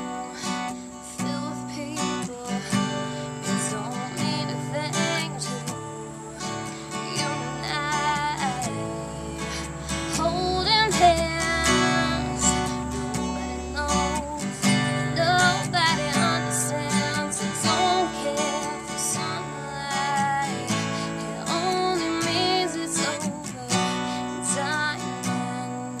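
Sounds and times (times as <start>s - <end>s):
acoustic guitar strumming: 0.0s - 26.0s
woman singing: 0.0s - 26.0s.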